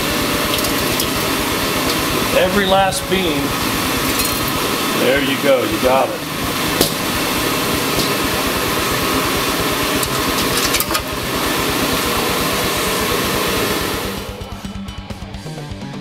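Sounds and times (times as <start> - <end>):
coffee beans being stirred: 0.0 - 14.0
cooling fan blowing: 0.0 - 15.3
guitar music: 0.0 - 16.0.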